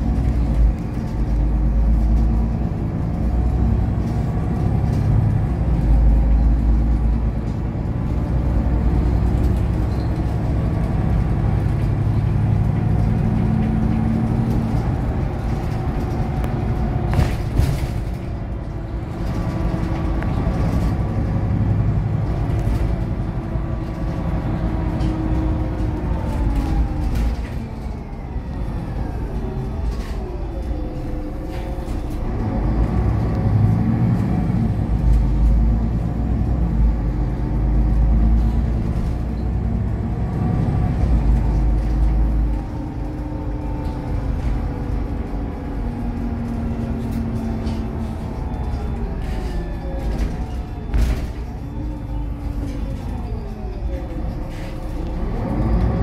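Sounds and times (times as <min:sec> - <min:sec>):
bus engine and drivetrain whine: 0:00.0 - 0:56.0.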